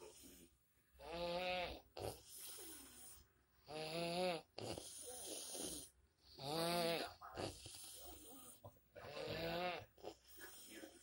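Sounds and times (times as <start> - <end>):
quiet breathing: 0.0 - 3.7, 4.4 - 6.4, 7.0 - 11.0.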